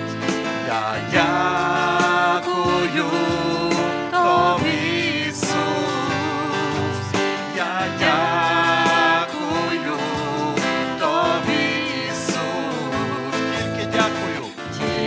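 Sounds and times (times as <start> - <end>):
instrumental accompaniment: 0.0 - 15.0
person singing: 0.6 - 15.0.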